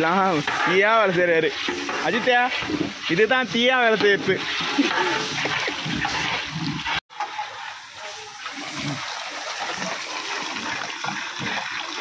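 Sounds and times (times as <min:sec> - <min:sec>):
water splashing in a pot: 0:00.0 - 0:12.0.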